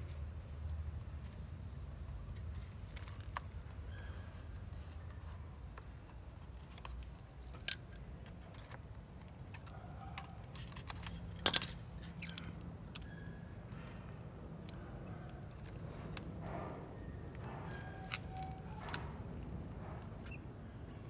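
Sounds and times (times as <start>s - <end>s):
small clicks and scrapes: 1.0s - 21.0s.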